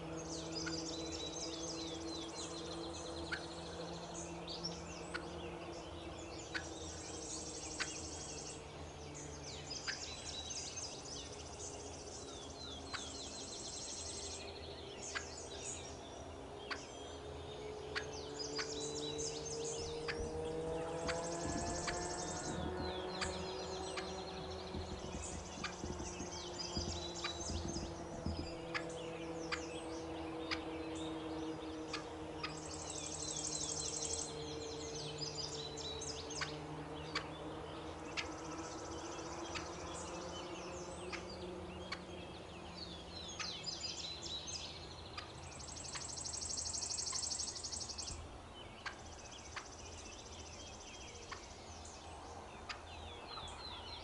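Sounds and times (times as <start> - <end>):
low steady drone: 0.0 - 54.0.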